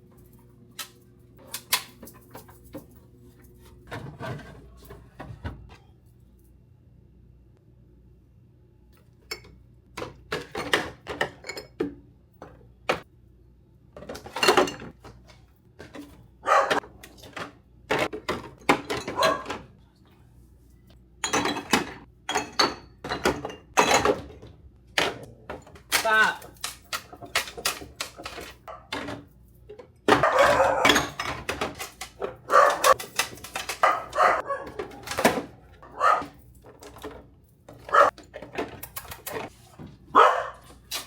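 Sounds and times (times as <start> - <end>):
dishes and containers clattering: 1.5 - 5.8, 9.2 - 13.0, 14.0 - 19.7, 21.2 - 41.0.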